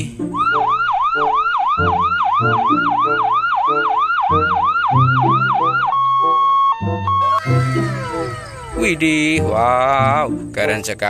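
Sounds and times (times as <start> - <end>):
low stepping melody: 0.0 - 11.0
ambulance siren yelping: 0.3 - 10.0.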